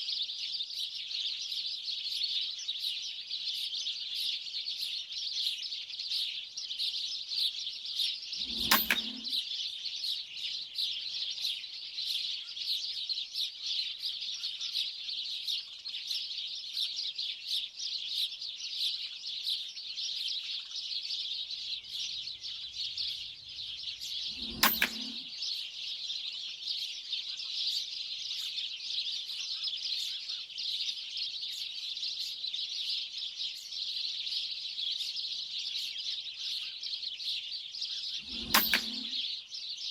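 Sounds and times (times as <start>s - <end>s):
flock of small birds chattering: 0.0s - 39.9s.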